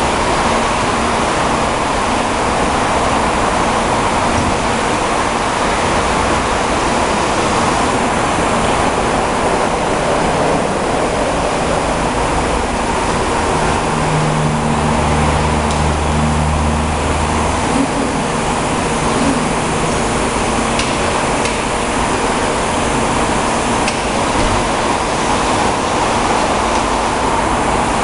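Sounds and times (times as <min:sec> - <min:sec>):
low motor hum: 0:00.0 - 0:28.0
mill rushing noise: 0:00.0 - 0:28.0.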